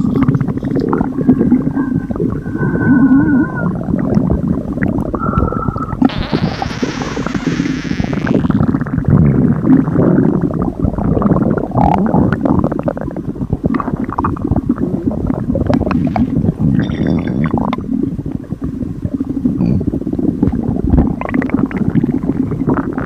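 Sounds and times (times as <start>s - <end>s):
stomach growling and gurgling: 0.0s - 23.0s.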